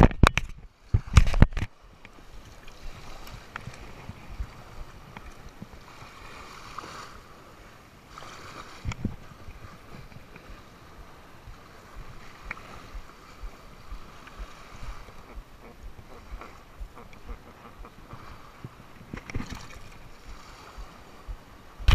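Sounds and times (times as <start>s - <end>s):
wind rumbling on microphone: 0.0s - 21.9s
surf water sloshing: 0.3s - 21.9s.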